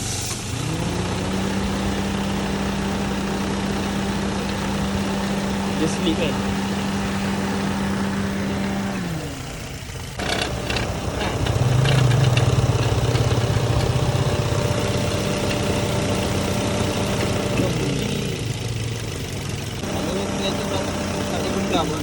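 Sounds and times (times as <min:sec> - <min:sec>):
car engine running: 0:00.0 - 0:22.0
drive belt chirps: 0:00.0 - 0:22.0.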